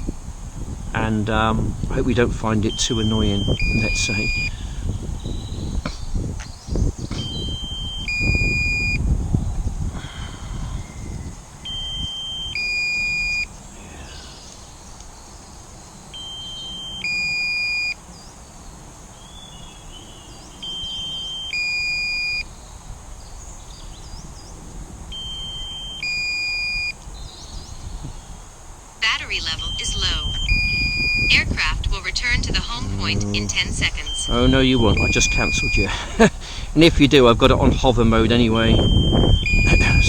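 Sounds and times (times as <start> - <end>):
low-battery warning beeping: 0.0 - 9.2, 10.2 - 14.7, 15.8 - 18.1, 19.5 - 22.7, 24.8 - 27.0, 29.0 - 40.0
wind gusts on microphone: 0.0 - 40.0.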